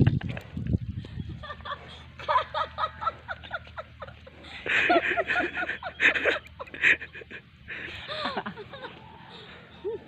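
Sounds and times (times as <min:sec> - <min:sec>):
people laughing: 0:01.4 - 0:10.0.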